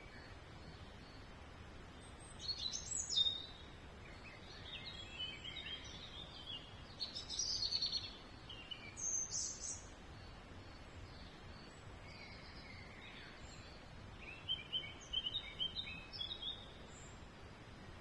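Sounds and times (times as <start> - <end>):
faint outdoor background noise: 0.0 - 18.0
small songbird singing: 0.0 - 18.0.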